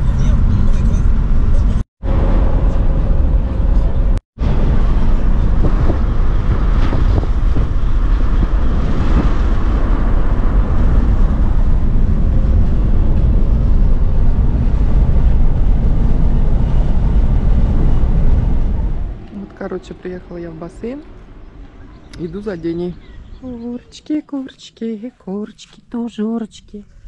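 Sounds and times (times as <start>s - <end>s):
car driving road rumble: 0.0s - 24.2s.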